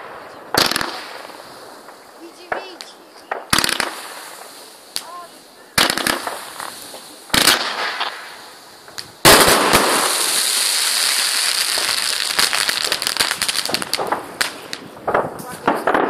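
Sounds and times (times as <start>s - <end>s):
firework bangs: 0.0s - 16.0s
firework crackling: 0.0s - 16.0s.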